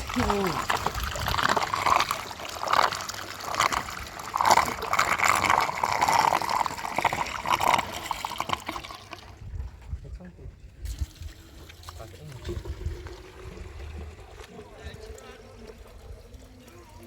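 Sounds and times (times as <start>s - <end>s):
water splashing and trickling: 0.0s - 9.9s, 10.8s - 17.0s.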